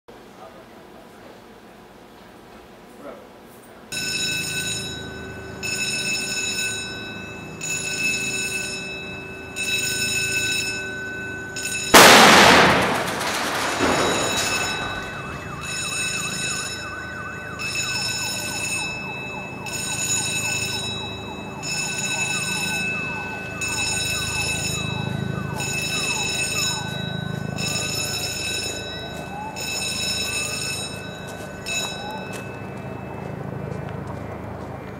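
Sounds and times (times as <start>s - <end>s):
warbling siren: 3.9s - 34.9s.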